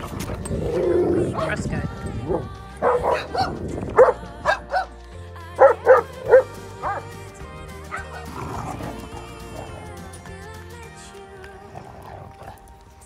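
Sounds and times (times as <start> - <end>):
dogs barking and yipping: 0.0 - 10.6
background music: 0.0 - 13.0.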